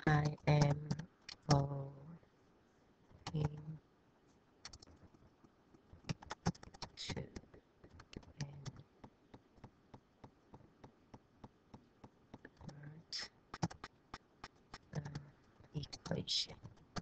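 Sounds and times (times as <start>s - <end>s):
computer keyboard typing: 0.0s - 1.8s, 3.2s - 3.6s, 4.6s - 5.2s, 6.0s - 17.0s.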